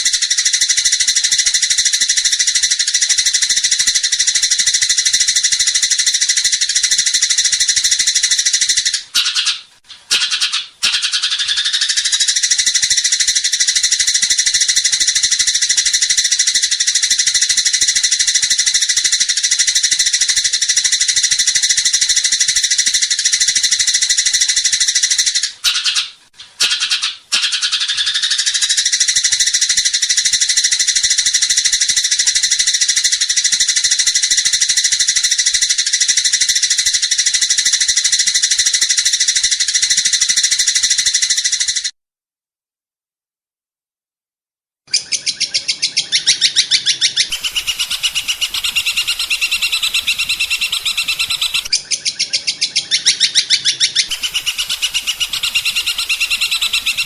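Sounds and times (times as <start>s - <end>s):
songbird rapid high trill: 0.0s - 41.9s, 44.9s - 57.0s.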